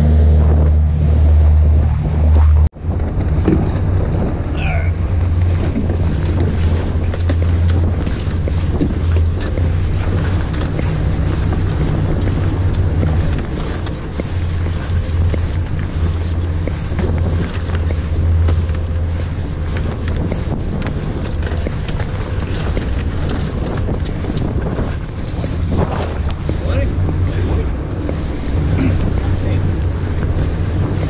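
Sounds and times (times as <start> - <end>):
boat engine humming: 0.0 - 31.0
wind noise on microphone: 0.0 - 31.0.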